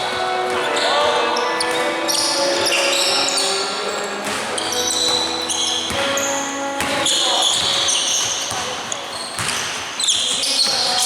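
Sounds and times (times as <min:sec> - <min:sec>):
basketball bouncing: 0:00.0 - 0:11.0
sneakers squeaking on hardwood: 0:00.0 - 0:11.0.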